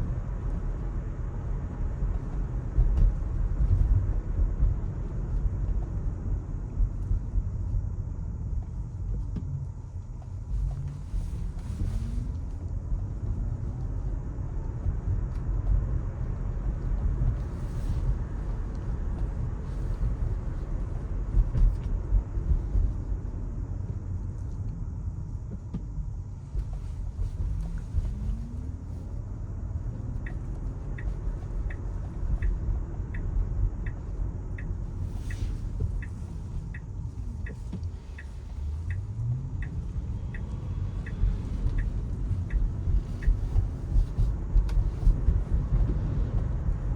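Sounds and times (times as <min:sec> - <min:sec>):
road and tyre rumble: 0:00.0 - 0:46.9
turn signal ticking: 0:00.0 - 0:46.9.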